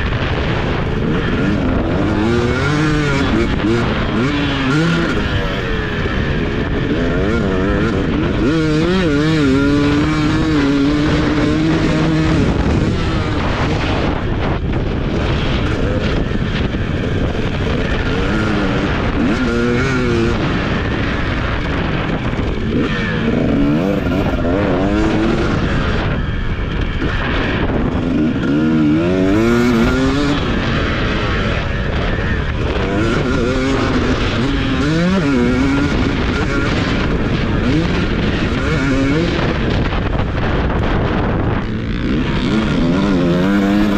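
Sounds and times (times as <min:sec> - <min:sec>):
motocross bike engine revving: 0:00.0 - 0:43.9
wind noise: 0:00.0 - 0:43.9.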